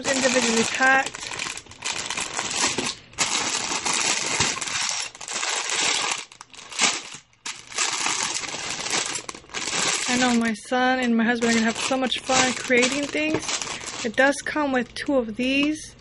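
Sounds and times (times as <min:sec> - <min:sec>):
loose pieces shifting in bags: 0:00.0 - 0:14.3
plastic bags crinkling: 0:00.0 - 0:15.8.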